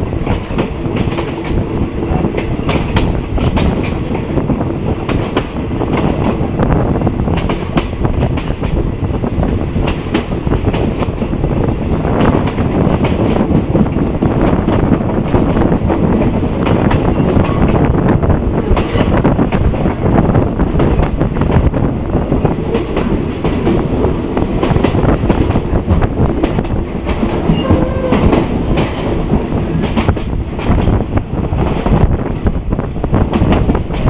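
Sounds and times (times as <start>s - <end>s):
train wheels clattering over rail joints: 0.0s - 6.5s, 7.2s - 34.0s.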